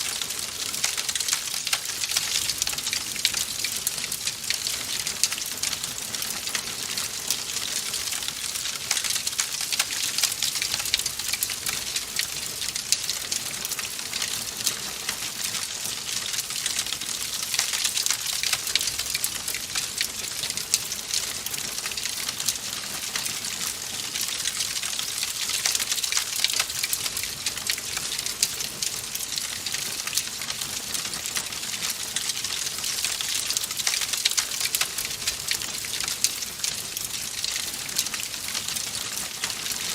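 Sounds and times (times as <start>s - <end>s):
wood fire crackling: 0.0s - 39.8s.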